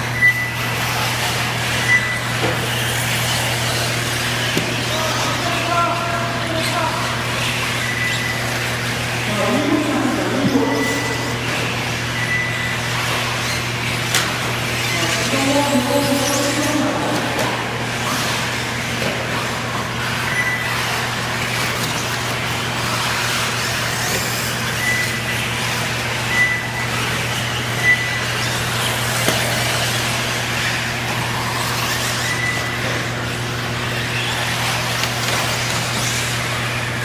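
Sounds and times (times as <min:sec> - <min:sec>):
constant low hum: 0:00.0 - 0:37.0
rc car motor whines: 0:00.0 - 0:37.0.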